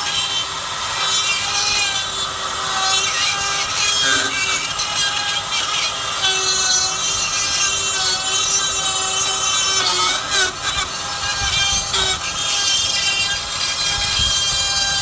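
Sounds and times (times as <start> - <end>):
power tool whining under load: 0.0 - 15.0.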